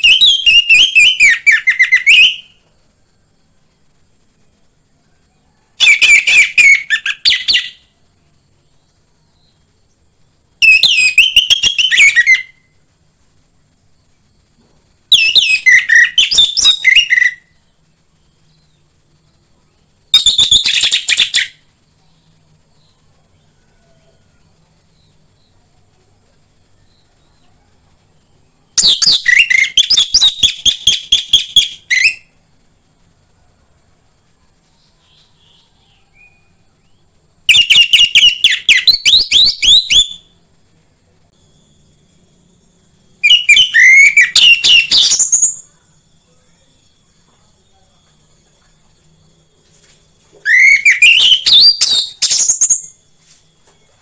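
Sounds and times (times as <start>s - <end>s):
faint high hiss: 0.0s - 54.0s.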